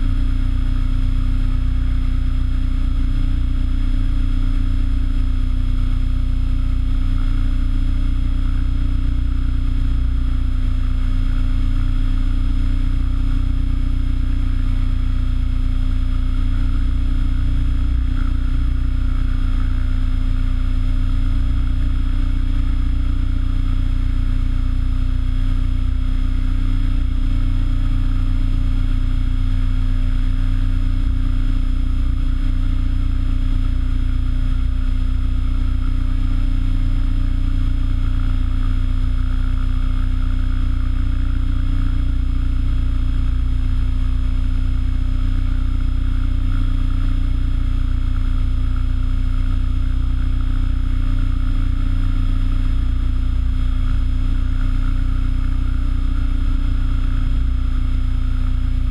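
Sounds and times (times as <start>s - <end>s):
rc helicopter rotor rumble: 0.0s - 58.9s.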